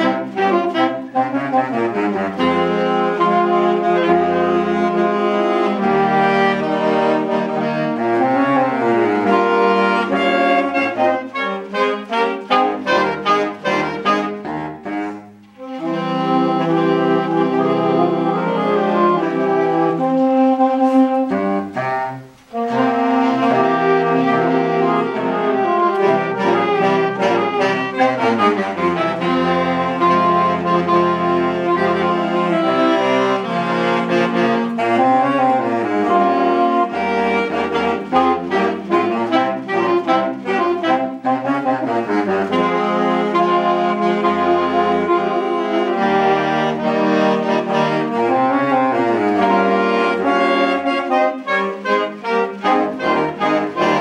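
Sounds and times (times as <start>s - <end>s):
saxophone choir playing: 0.0s - 54.0s.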